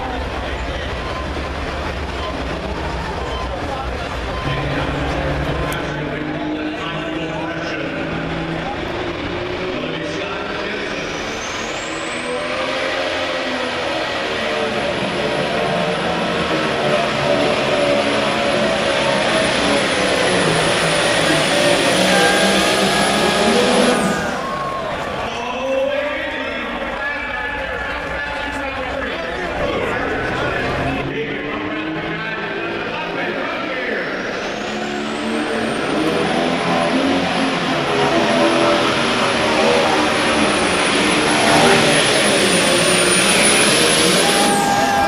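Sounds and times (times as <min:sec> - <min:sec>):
diesel tractor engine running: 0:00.0 - 0:32.4, 0:33.8 - 0:45.0
high turbo whine: 0:00.0 - 0:45.0.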